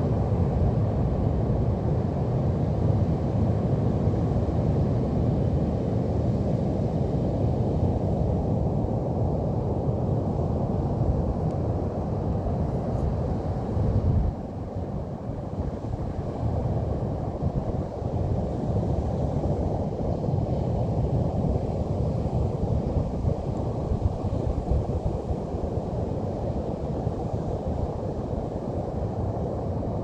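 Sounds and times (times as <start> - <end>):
wind buffeting the microphone: 0.0 - 30.0.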